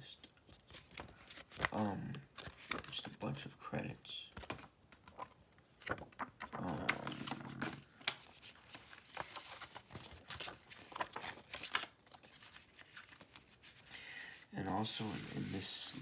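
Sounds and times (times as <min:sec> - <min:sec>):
paper crinkling and rustling: 0:00.2 - 0:03.3, 0:04.3 - 0:14.0, 0:14.6 - 0:16.0.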